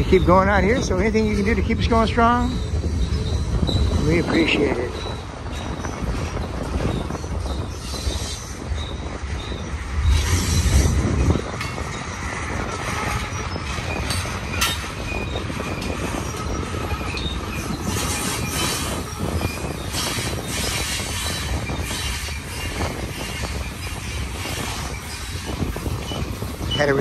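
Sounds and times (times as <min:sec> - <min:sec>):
high-pitched wheel squeals: 0:00.0 - 0:27.0
train wheels rumbling on rail: 0:00.0 - 0:27.0.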